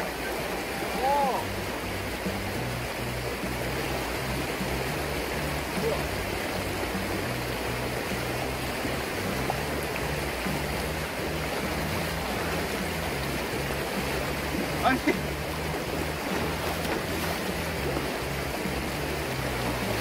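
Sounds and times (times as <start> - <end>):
river rushing over riffle: 0.0 - 20.0.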